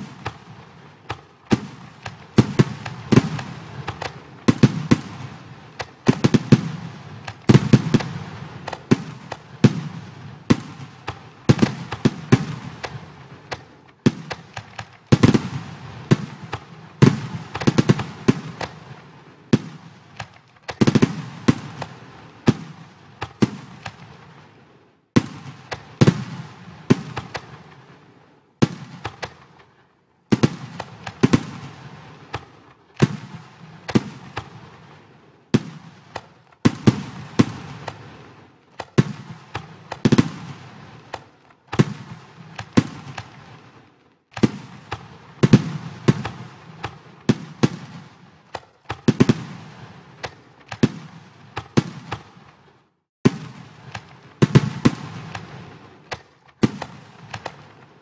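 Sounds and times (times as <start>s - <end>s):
fireworks bangs: 0.0s - 58.0s
fireworks crackle and hiss: 0.0s - 58.0s.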